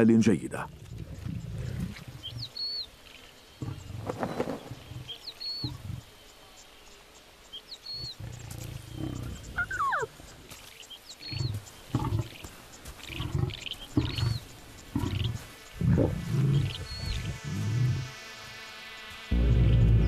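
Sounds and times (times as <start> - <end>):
bird chirping: 0.8 - 17.5.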